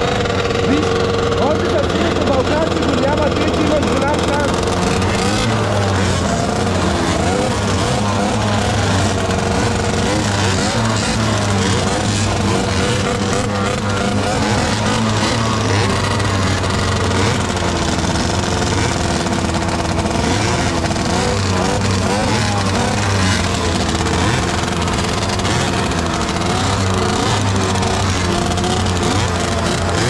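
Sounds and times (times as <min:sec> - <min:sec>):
moped engines revving: 0:00.0 - 0:30.0.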